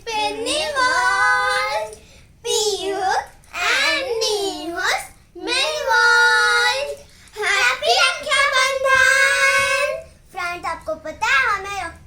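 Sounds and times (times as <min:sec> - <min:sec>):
child singing: 0:00.0 - 0:11.1.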